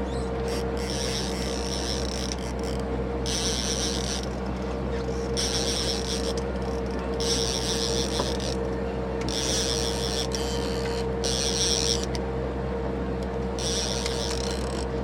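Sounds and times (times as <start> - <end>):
boat engine humming: 0.0 - 15.0
high mechanical whirr: 0.0 - 15.0.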